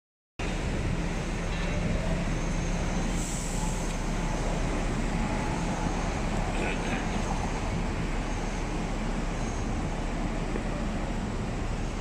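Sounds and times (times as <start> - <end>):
vehicle engines rumbling: 0.4 - 12.0.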